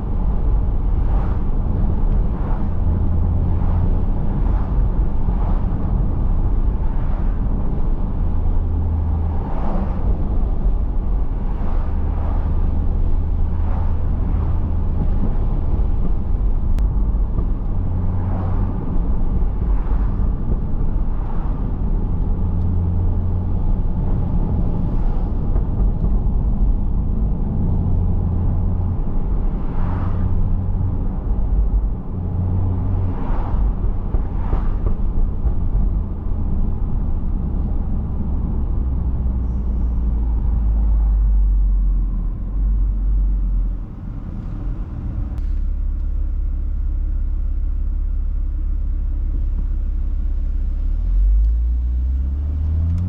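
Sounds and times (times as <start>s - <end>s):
car engine and exhaust droning: 0.0s - 53.0s
road noise: 0.0s - 53.0s.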